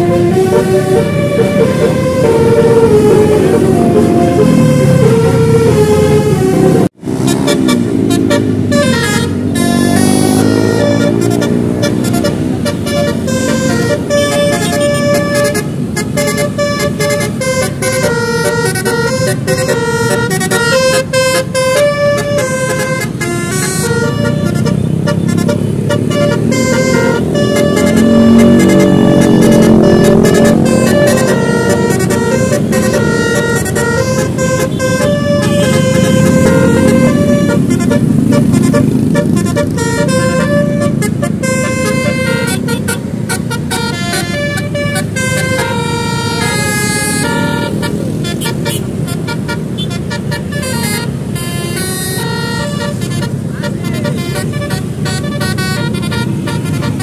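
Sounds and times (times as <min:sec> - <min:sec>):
engine and road rumble: 0:00.0 - 0:57.0
multi-tone horn playing a tune: 0:00.0 - 0:57.0.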